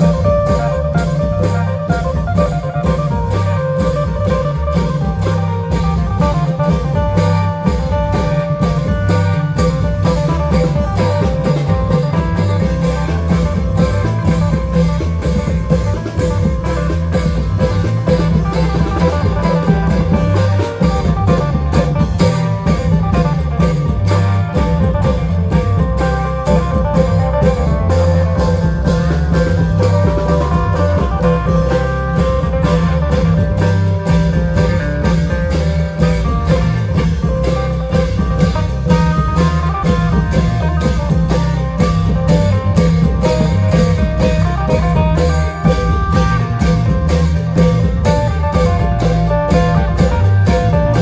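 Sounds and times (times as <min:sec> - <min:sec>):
long drums beating: 0:00.0 - 0:51.0
plucked string melody: 0:00.0 - 0:51.0.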